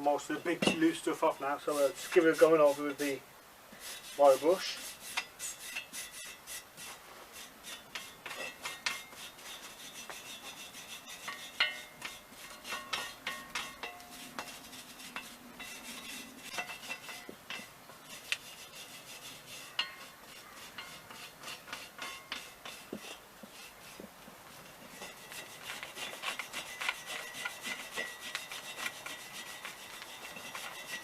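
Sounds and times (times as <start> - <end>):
wire brush scrubbing metal: 0.0 - 3.2, 3.8 - 31.0.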